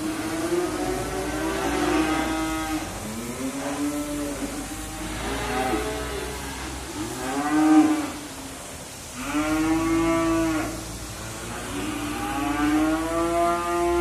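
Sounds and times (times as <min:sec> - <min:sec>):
cattle mooing: 0:00.2 - 0:08.2, 0:09.2 - 0:14.0.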